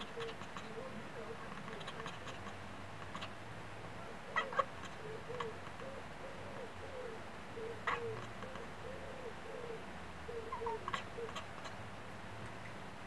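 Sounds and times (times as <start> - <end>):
pigeon cooing: 0.0 - 3.4, 4.0 - 11.8.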